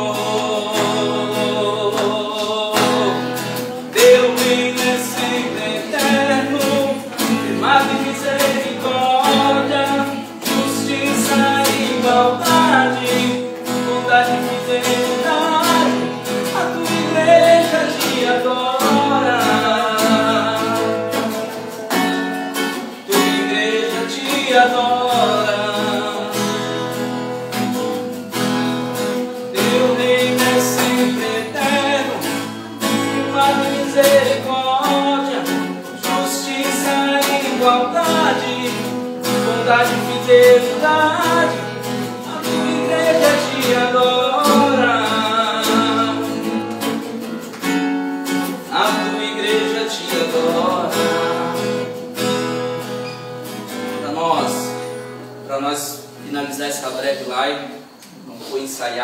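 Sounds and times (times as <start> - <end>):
man singing: 0.0 - 28.2, 29.2 - 47.6, 48.4 - 52.3
strummed acoustic guitar: 0.0 - 59.0.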